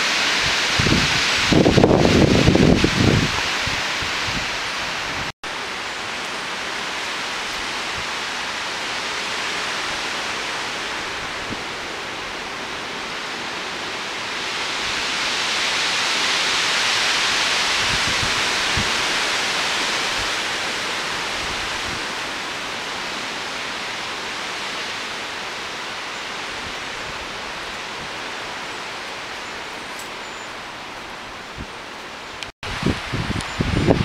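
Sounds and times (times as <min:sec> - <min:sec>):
strong wind gusts rushing: 0:00.0 - 0:05.3, 0:06.7 - 0:29.3, 0:30.6 - 0:34.0.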